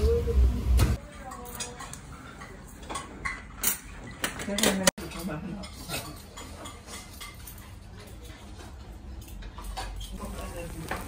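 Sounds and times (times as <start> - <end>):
dishes and cutlery clinking: 0.9 - 11.0.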